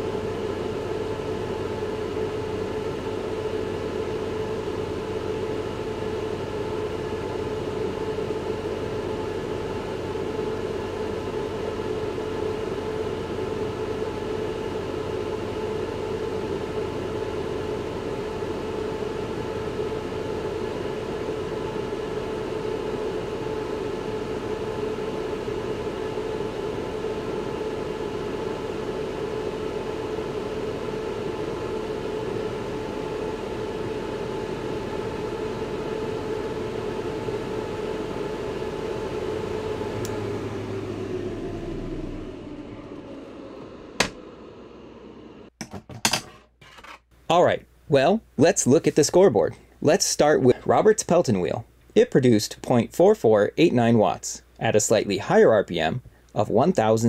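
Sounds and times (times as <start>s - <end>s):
steady hum: 0.0s - 46.2s, 47.2s - 57.0s.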